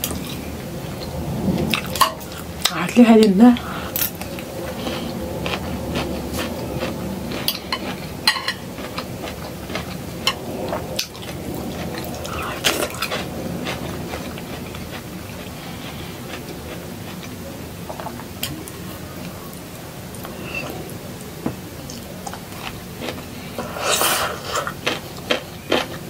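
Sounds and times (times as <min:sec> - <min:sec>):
close-up chewing: 0:03.6 - 0:20.4, 0:21.9 - 0:26.0.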